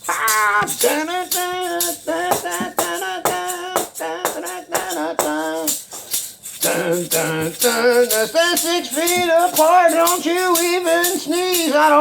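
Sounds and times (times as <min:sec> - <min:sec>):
shaker beat: 0:00.0 - 0:12.0.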